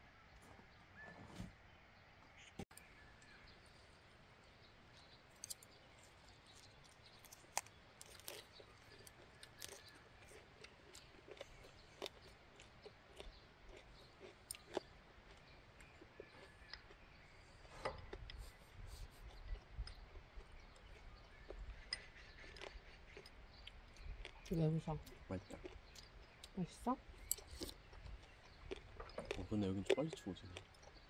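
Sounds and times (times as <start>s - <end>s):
low steady background: 0.0s - 31.0s
quiet chewing: 2.3s - 31.0s.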